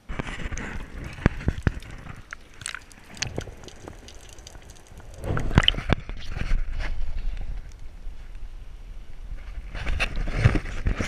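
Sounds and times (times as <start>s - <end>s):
underwater clicks and crackles: 0.0s - 11.0s
underwater rumble of moving water: 0.0s - 11.0s.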